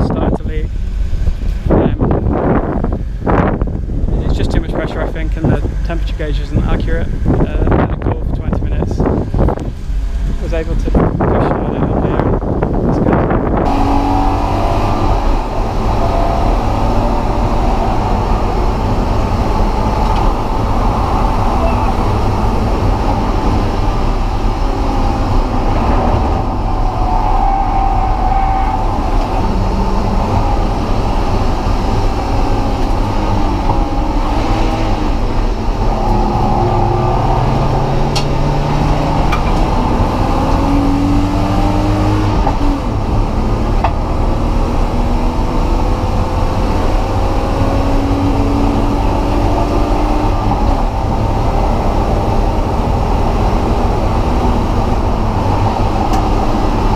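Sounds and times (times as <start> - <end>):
car engine and road noise: 0.0 - 56.9.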